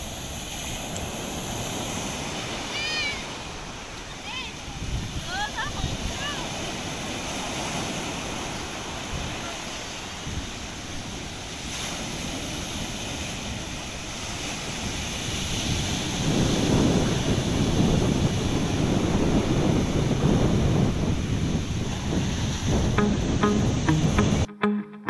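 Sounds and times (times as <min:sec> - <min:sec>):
sea surf washing in: 0:00.0 - 0:24.5
wind buffeting microphone: 0:00.0 - 0:24.5.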